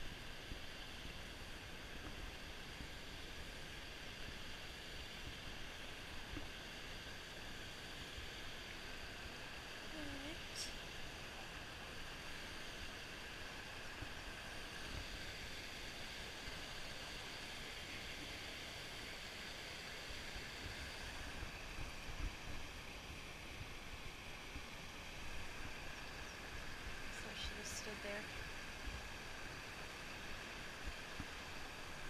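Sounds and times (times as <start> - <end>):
creek water running over rocks: 0.0 - 32.0.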